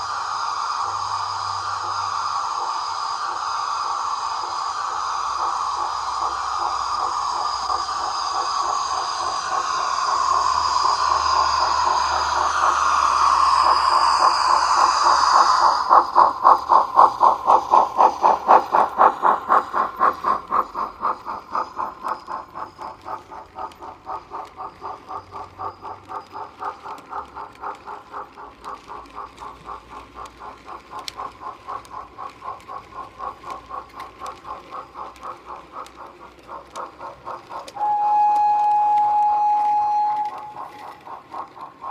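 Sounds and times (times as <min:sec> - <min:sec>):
model locomotive steam hiss: 0:00.0 - 0:41.9
steady whistle tone: 0:00.0 - 0:41.9
steam exhaust chuffs: 0:00.0 - 0:41.9.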